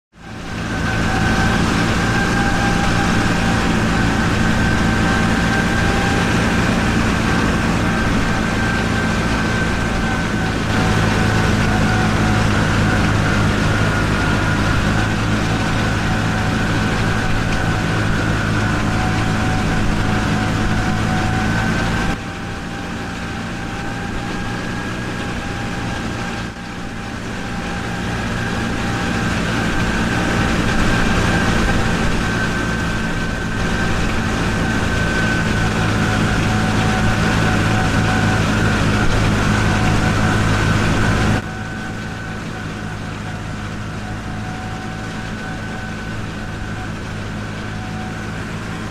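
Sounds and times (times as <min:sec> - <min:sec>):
high-pitched whine: 0:00.2 - 0:48.9
mechanical hum: 0:00.2 - 0:48.9.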